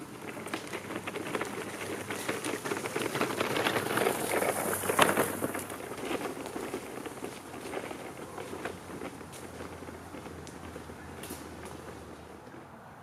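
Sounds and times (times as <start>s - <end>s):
stroller wheels crunching leaves: 0.0s - 12.4s.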